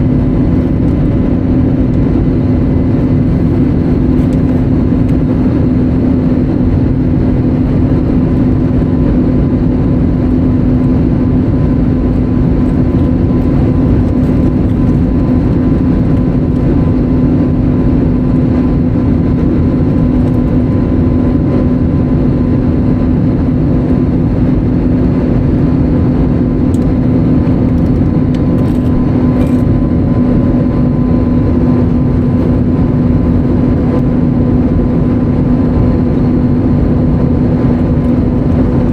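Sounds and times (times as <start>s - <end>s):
airplane cabin engine roar: 0.0s - 38.9s
steady low hum: 0.0s - 38.9s.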